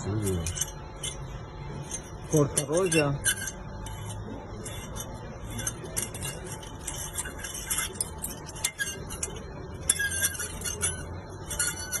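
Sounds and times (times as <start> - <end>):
brakes squeaking and scraping: 0.0 - 12.0.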